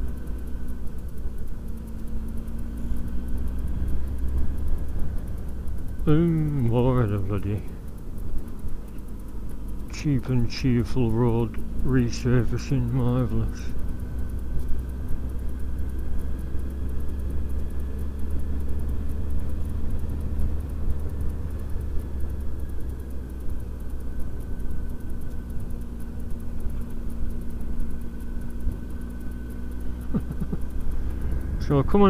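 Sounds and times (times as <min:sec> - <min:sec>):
motorcycle engine cruising: 0:00.0 - 0:32.0.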